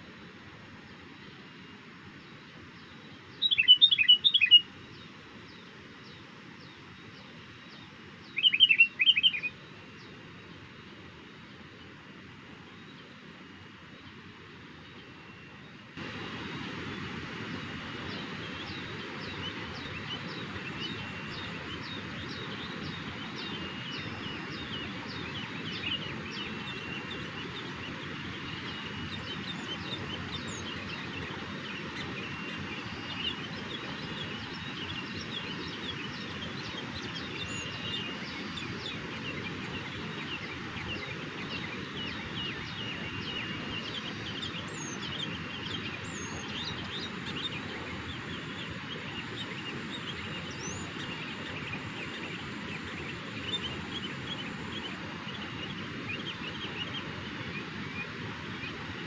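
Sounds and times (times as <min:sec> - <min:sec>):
steady background hiss: 0:00.0 - 0:59.0
birds chirping: 0:02.2 - 0:11.0, 0:12.7 - 0:59.0.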